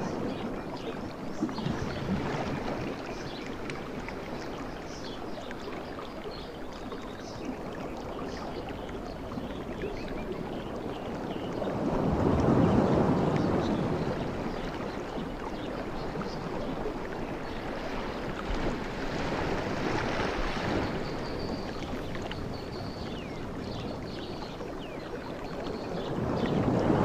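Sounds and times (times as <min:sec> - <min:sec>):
sea waves on a beach: 0:00.0 - 0:27.0.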